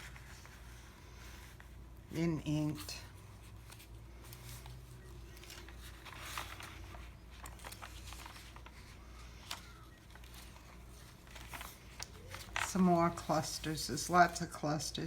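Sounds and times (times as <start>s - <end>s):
paper rustling: 0.0s - 14.8s
low steady hum: 0.0s - 15.0s.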